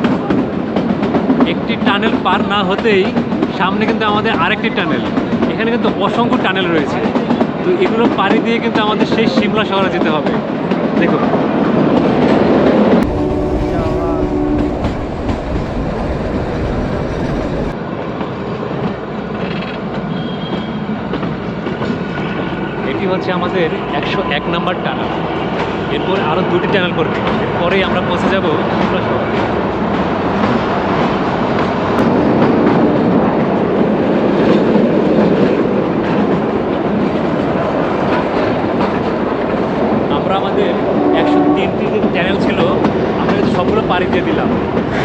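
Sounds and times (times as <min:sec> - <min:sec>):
train wheels on track: 0:00.0 - 0:45.0.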